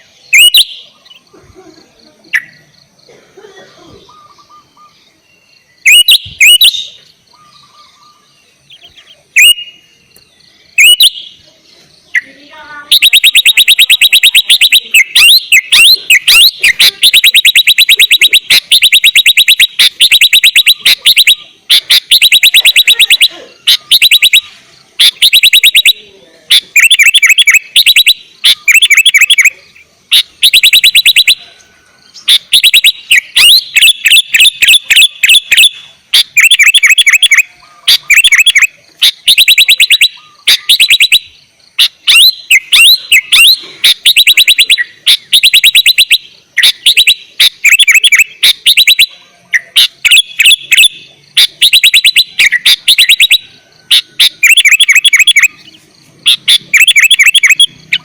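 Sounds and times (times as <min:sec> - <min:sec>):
bulbul chirping rapidly: 0:00.0 - 0:01.4, 0:02.3 - 0:03.1, 0:05.6 - 0:31.5, 0:32.1 - 0:58.0.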